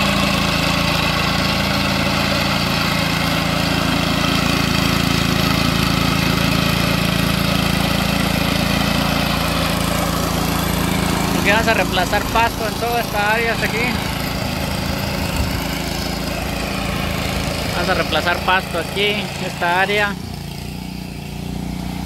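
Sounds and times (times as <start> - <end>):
small gasoline engine running: 0.0 - 22.0.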